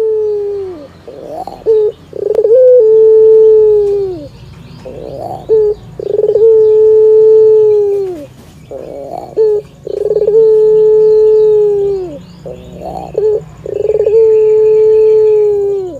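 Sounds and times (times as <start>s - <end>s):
dove cooing: 0.0s - 15.9s.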